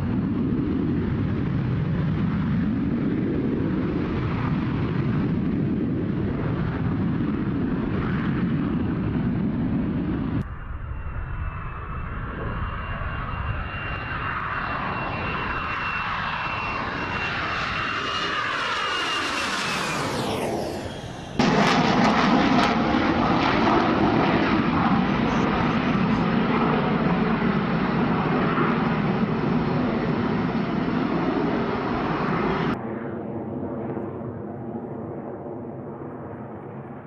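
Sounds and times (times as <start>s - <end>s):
jet fighter passing by: 0.0s - 37.0s
low steady jet rumble: 0.0s - 37.0s.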